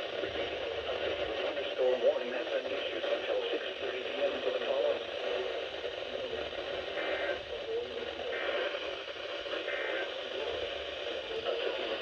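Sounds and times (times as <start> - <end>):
faint garbled voice: 0.0 - 12.0
radio static and hiss: 0.0 - 12.0.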